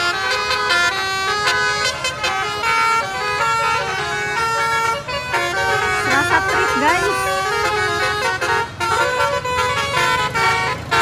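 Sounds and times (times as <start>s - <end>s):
bus horn playing a tune: 0.0s - 11.0s.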